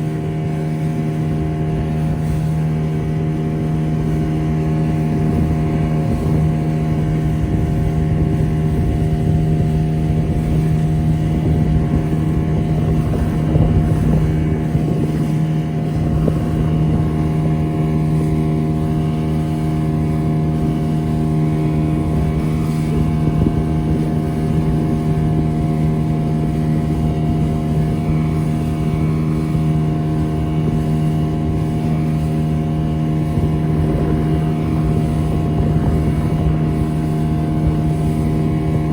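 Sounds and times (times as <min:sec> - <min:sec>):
motorboat engine humming: 0:00.0 - 0:38.9.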